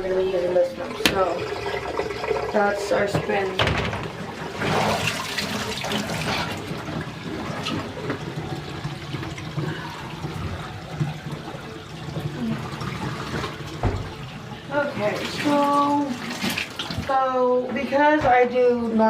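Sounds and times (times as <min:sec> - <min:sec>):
water draining from washing machine: 0:00.0 - 0:17.9.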